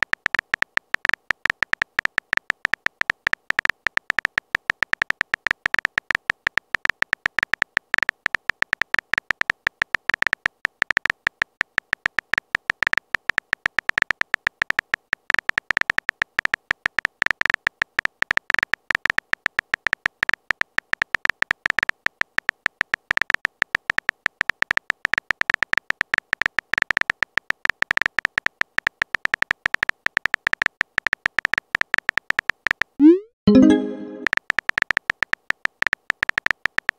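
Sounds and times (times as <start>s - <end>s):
phone keyboard typing clicks: 0.0s - 36.9s.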